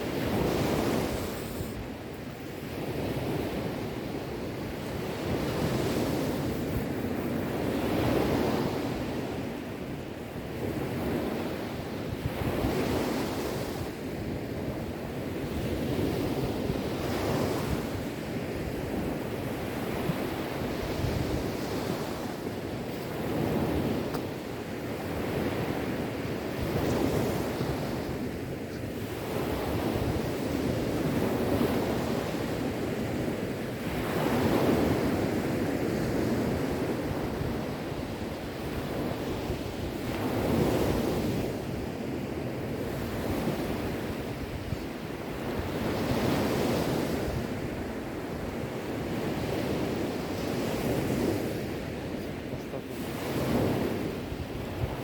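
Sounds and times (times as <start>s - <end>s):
sea waves breaking on shore: 0.0s - 55.0s
wind: 0.0s - 55.0s.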